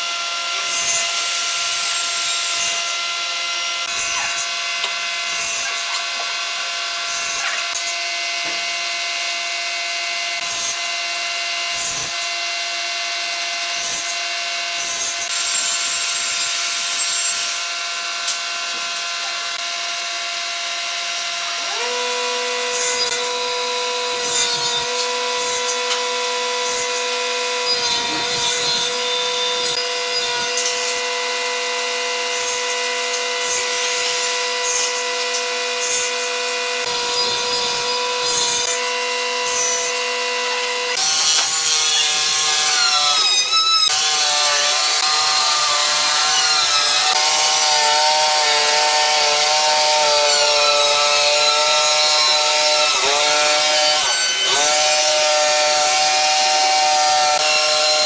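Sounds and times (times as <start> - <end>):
power tool humming: 0.0 - 58.0.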